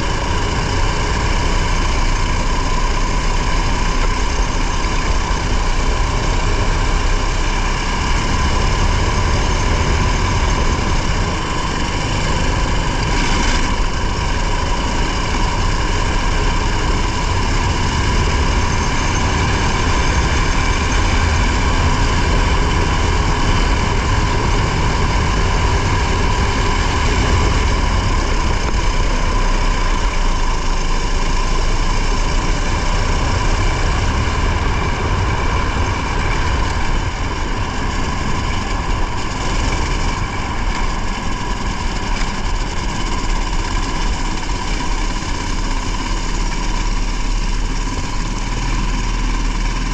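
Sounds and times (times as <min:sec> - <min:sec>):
car engine running steadily: 0:00.0 - 0:49.9.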